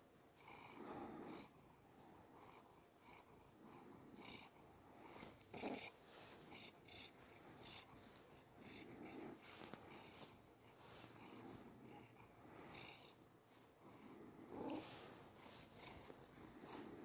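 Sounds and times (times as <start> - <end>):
cat purring faintly: 0.4 - 17.0.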